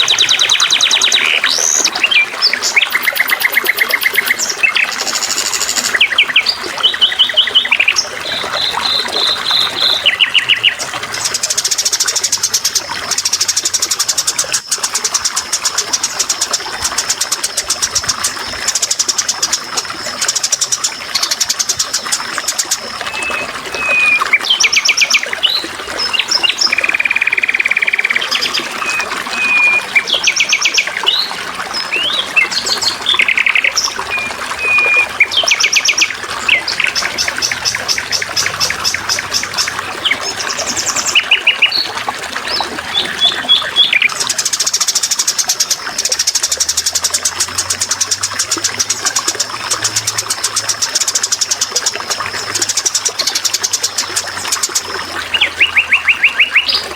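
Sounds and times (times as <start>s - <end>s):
running water trickling: 0.0s - 56.9s
songbirds singing: 0.0s - 56.9s.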